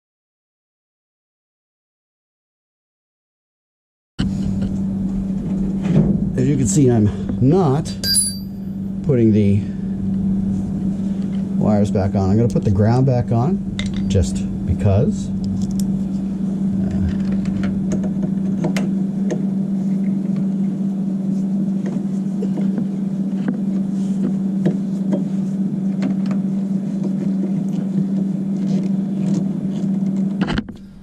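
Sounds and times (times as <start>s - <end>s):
loud machine hum: 4.2s - 31.0s.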